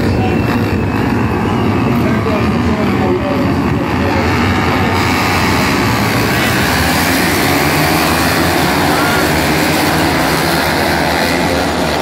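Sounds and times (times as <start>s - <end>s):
racing motorcycle engines: 0.0s - 12.0s.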